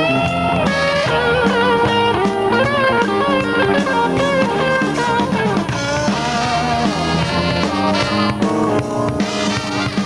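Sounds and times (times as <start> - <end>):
drum kit: 0.0 - 10.0
electric guitar: 0.0 - 10.0.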